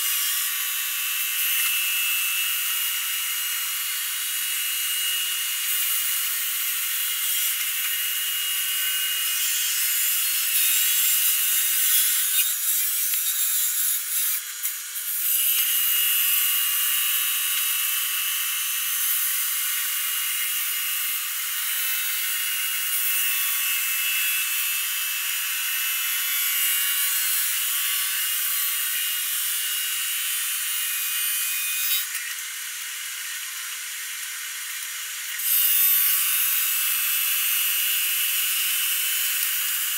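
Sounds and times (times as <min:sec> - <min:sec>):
polishing machine grinding marble: 0:00.0 - 0:39.9.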